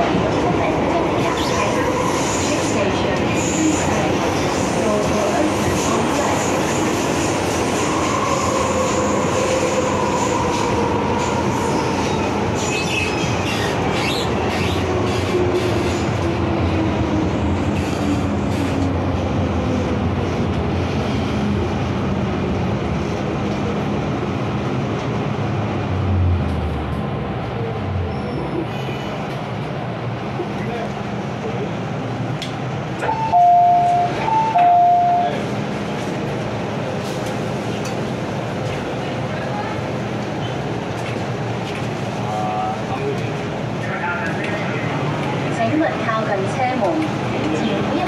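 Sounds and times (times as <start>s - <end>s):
train running on rails: 0.0s - 48.0s.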